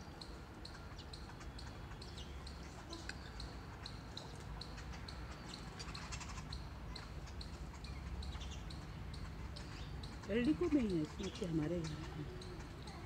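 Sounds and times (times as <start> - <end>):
other birds chirping: 0.0 - 13.0
small bird chirping: 0.0 - 13.0.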